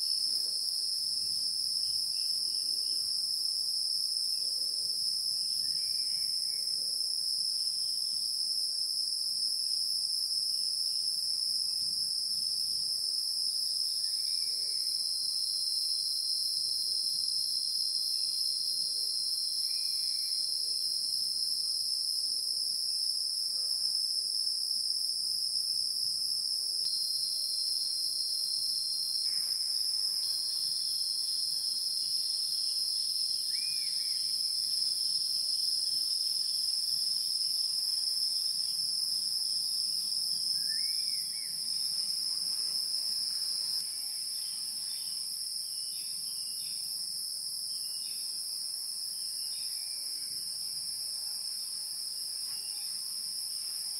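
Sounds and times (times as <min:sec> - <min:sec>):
chorus of insects: 0:00.0 - 0:53.9.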